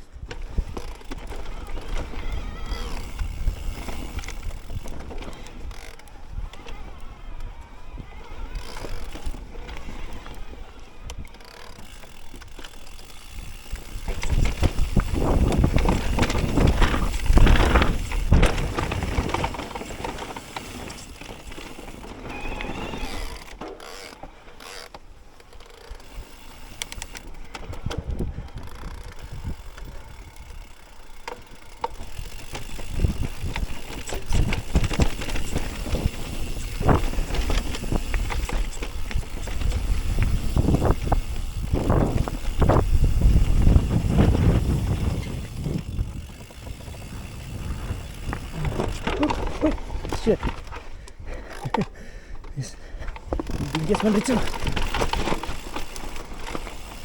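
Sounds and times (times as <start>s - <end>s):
bike chain and frame rattling: 0.0s - 57.0s
bike tyres on dirt and roots: 0.0s - 57.0s.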